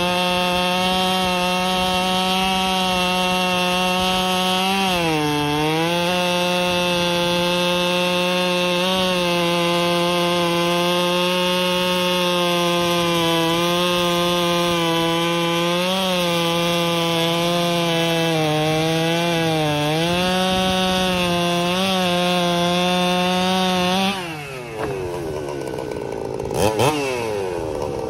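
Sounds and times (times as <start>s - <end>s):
chainsaw cutting log: 0.0s - 28.0s.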